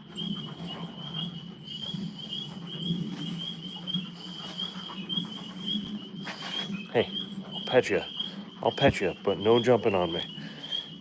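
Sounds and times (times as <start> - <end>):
tree frogs trilling: 0.0 - 11.0.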